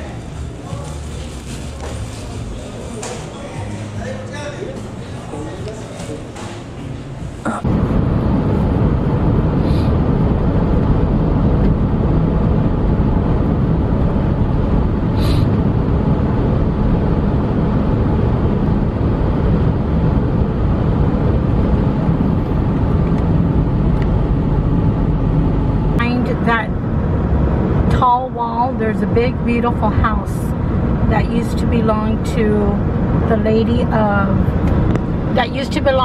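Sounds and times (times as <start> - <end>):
car road and engine rumble: 6.7 - 36.0.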